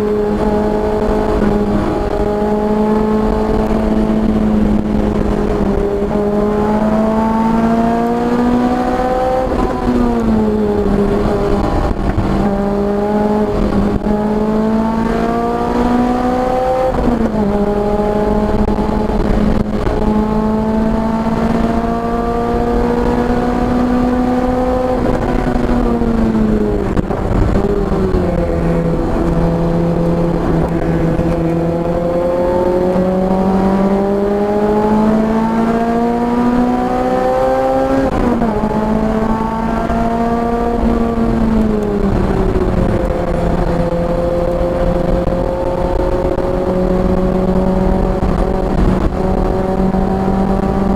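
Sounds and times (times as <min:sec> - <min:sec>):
car engine at full throttle: 0:00.0 - 0:50.9.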